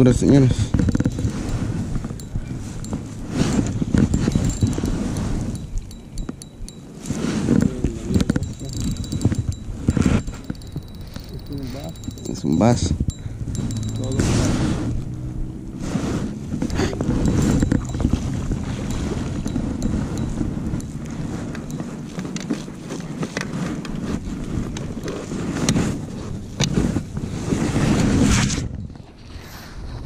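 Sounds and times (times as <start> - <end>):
wind buffeting microphone: 0.0 - 30.0
knocks and rustles of fishing gear: 0.7 - 14.2, 16.6 - 27.3.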